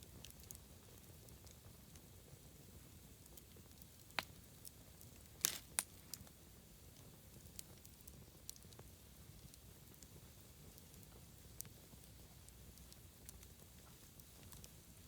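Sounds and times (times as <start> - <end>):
campfire crackling and popping: 0.0 - 15.0
low rumble of fire: 0.0 - 15.0.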